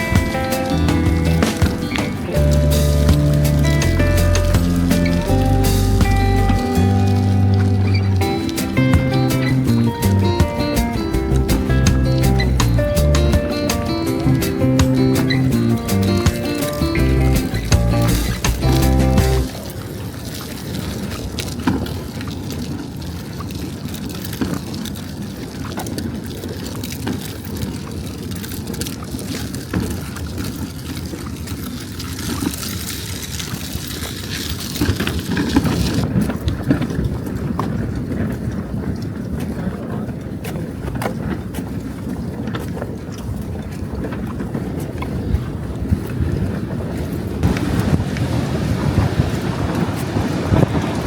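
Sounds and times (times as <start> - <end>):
wind buffeting microphone: 0.0 - 31.7, 33.4 - 51.0.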